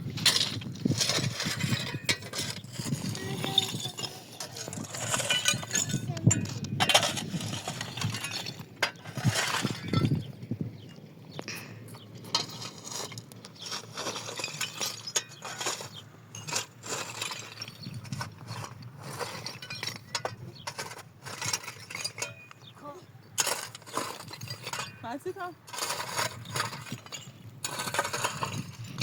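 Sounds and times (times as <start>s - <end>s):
small hard objects clinking: 0.2s - 10.3s, 12.2s - 29.0s.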